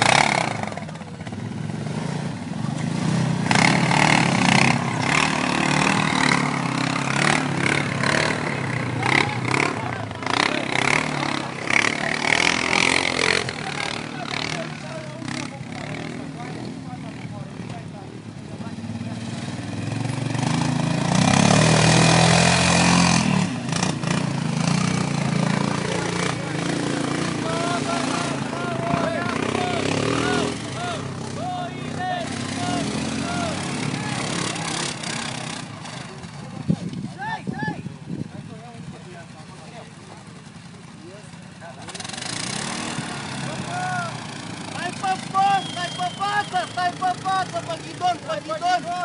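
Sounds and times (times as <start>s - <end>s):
atv engine revving: 0.0s - 49.0s.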